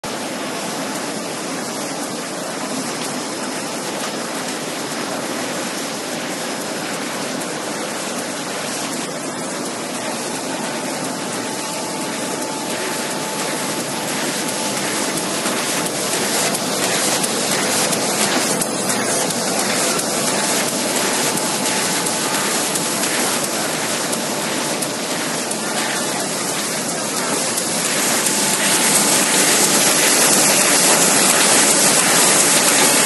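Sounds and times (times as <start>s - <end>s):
faint steady machine whine: 0.1s - 33.0s
machine running with dense hiss: 0.1s - 33.0s.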